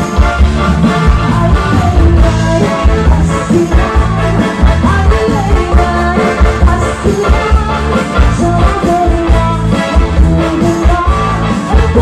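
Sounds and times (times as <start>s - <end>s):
live band cha-cha music: 0.0s - 12.0s.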